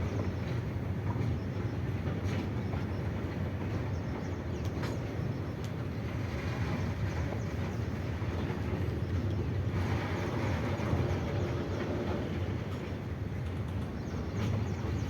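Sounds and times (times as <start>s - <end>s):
freight train wagons rolling past: 0.0s - 15.0s.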